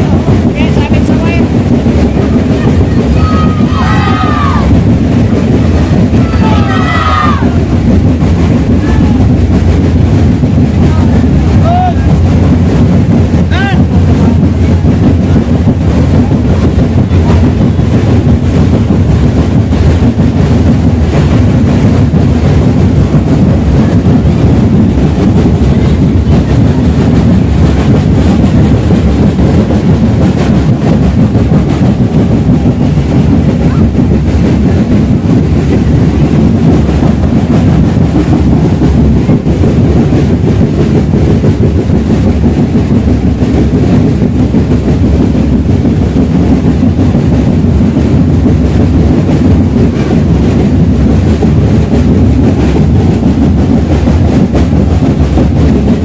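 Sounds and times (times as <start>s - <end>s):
street parade drumming: 0.0s - 56.0s.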